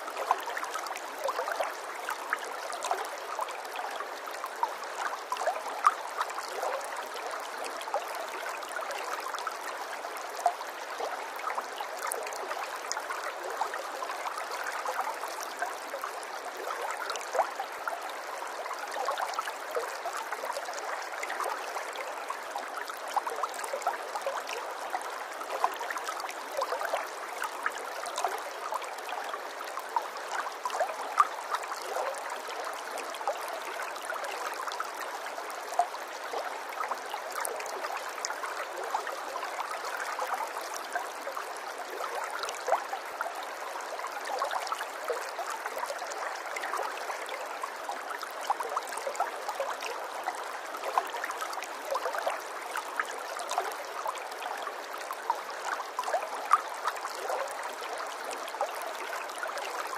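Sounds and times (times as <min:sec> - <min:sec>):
water trickling and gurgling: 0:00.0 - 0:59.9.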